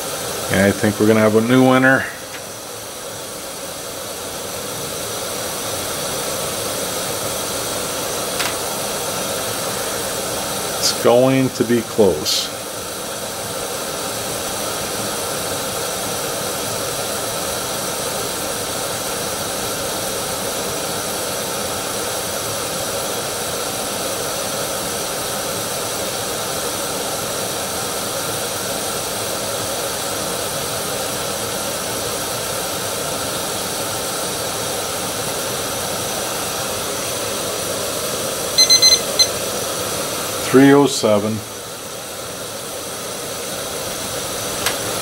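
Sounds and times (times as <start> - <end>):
gas stove burner roaring: 0.0 - 45.0.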